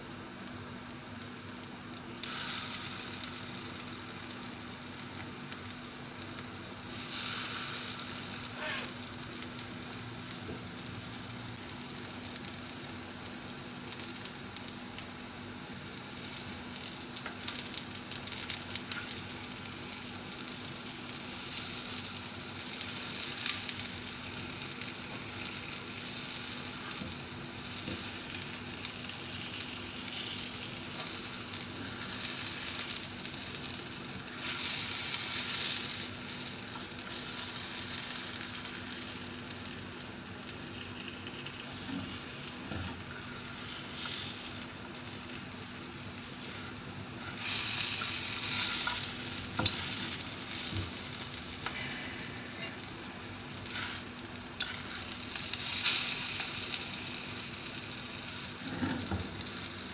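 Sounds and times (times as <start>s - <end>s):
food sizzling in frying pan: 0.0s - 59.9s.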